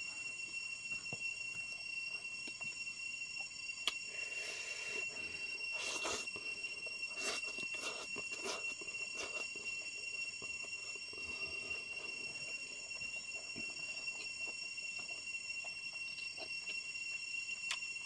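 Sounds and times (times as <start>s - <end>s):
high-pitched ringing: 0.0s - 18.0s.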